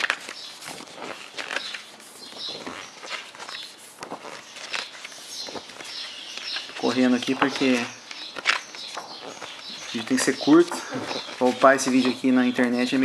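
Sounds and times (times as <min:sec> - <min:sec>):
book pages rustling: 0:00.0 - 0:13.0.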